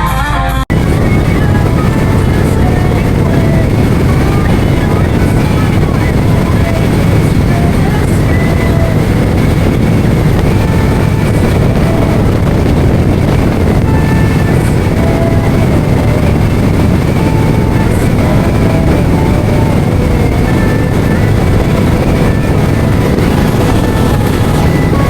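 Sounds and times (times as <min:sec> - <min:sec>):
motorcycle riding at speed: 0:00.7 - 0:25.0.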